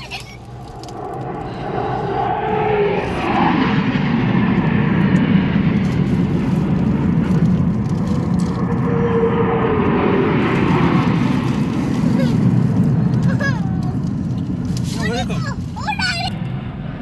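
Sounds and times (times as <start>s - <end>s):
jet aircraft flying past: 0.0s - 17.0s
jet engine whine: 0.0s - 17.0s.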